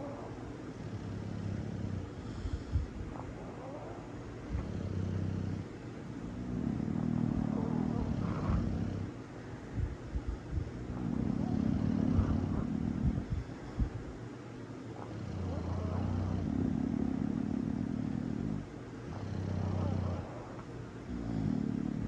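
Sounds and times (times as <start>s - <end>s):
dog snoring: 0.0s - 9.2s, 10.5s - 14.0s, 15.0s - 22.0s.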